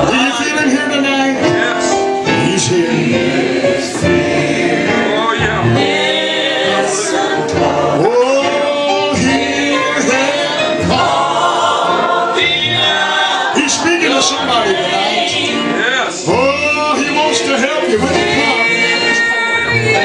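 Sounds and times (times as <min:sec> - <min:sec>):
congregation singing a hymn: 0:00.0 - 0:20.0
instrumental accompaniment: 0:00.0 - 0:20.0.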